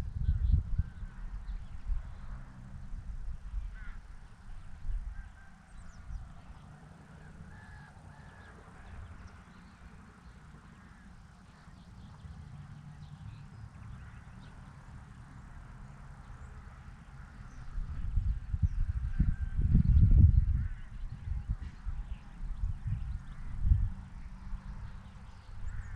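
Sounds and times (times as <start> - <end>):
wild birds chirping: 0.2 - 25.9.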